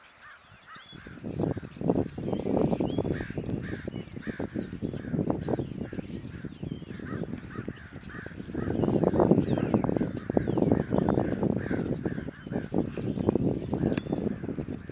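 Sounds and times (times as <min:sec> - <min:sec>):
birds calling: 0:00.0 - 0:14.9
high bird chirps: 0:00.0 - 0:14.9.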